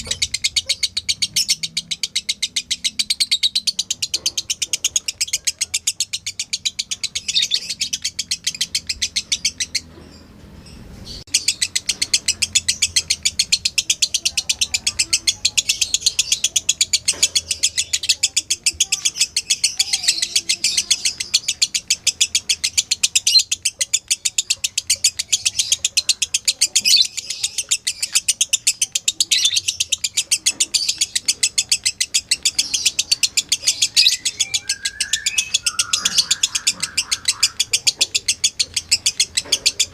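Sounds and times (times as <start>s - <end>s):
lovebird chattering high chirps: 0.0s - 39.9s.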